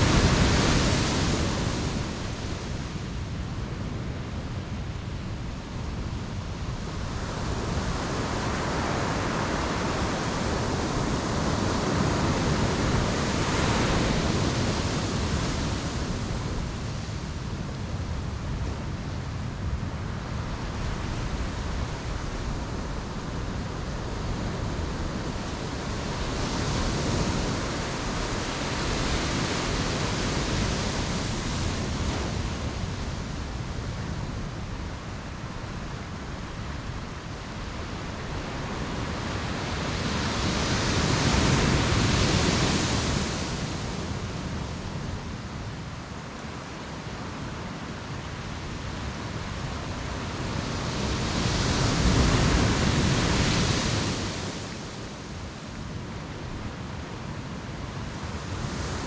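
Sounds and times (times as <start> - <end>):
ocean surf breaking on shore: 0.0 - 4.2, 6.9 - 59.0.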